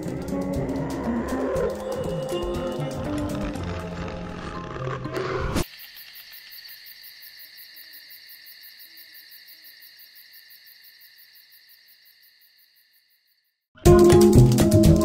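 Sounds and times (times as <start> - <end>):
insect chirring: 0.0 - 4.3, 5.1 - 13.6.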